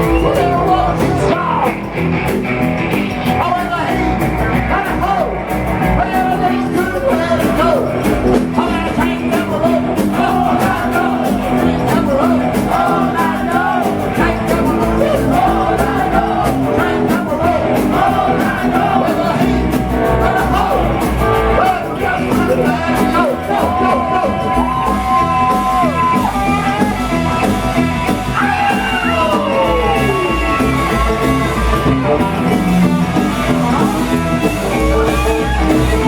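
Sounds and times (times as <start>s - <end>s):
rock band playing: 0.0s - 36.0s.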